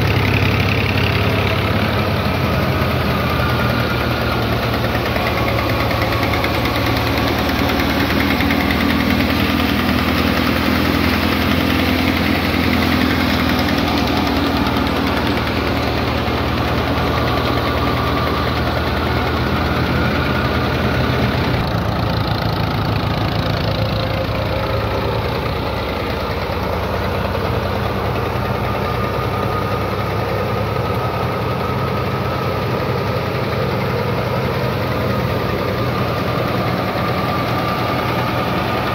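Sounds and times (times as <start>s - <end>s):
threshing machine running: 0.0s - 38.9s
tractor diesel engine running: 0.0s - 38.9s.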